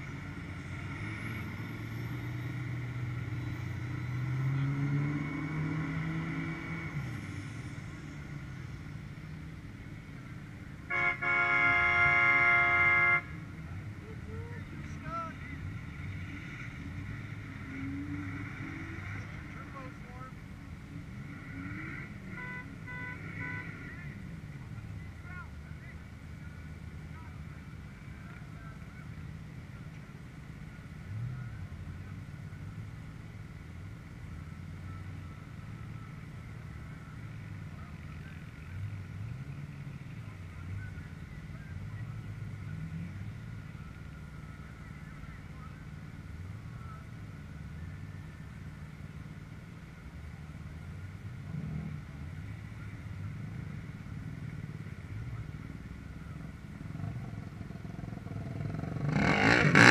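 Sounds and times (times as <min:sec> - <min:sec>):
distant pickup truck engines revving: 0:00.0 - 0:59.9.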